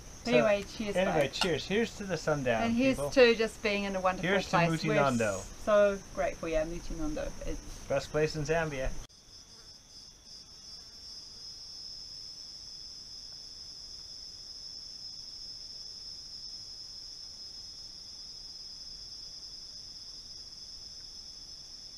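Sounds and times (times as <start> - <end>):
insects trilling: 0.0 - 21.9
low steady insect tone: 0.0 - 21.9.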